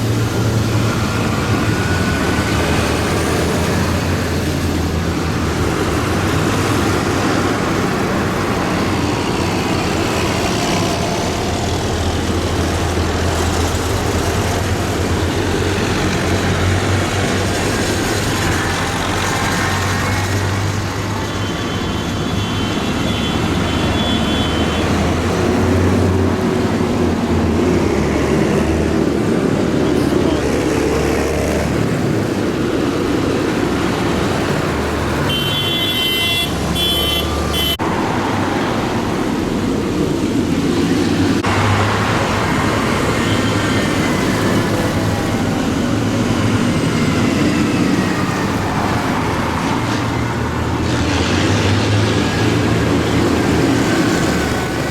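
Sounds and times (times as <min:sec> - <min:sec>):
tractor engines droning: 0:00.0 - 0:54.9.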